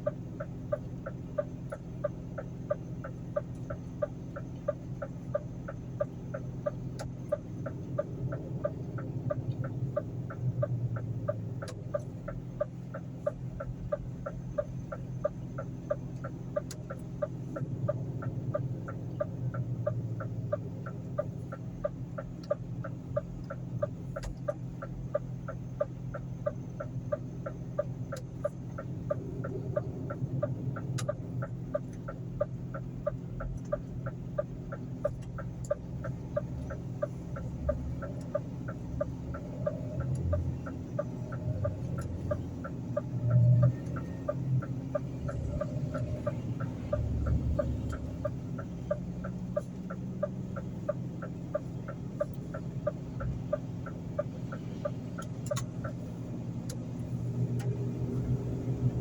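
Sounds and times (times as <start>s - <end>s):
continuous low hum: 0.0s - 59.0s
steady ticking: 0.0s - 59.0s.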